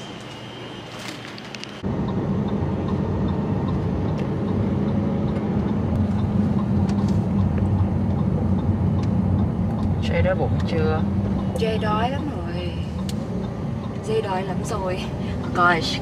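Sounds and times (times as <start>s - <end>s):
car engine and tyres drone: 0.0s - 16.0s.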